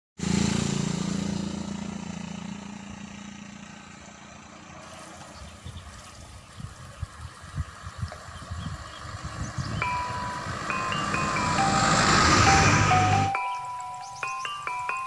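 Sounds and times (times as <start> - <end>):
vehicle engine humming: 0.2 - 15.0.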